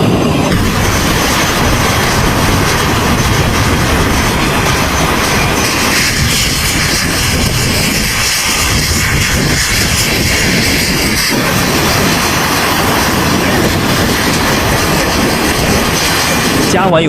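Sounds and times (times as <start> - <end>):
helicopter engines and rotor running: 0.0 - 17.0.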